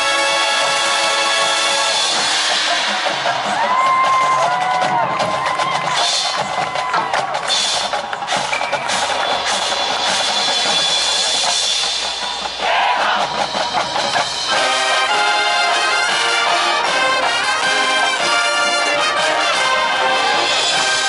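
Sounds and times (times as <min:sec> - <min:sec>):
marching band playing: 0:00.0 - 0:21.0
drum and mallet percussion strikes: 0:00.2 - 0:19.4.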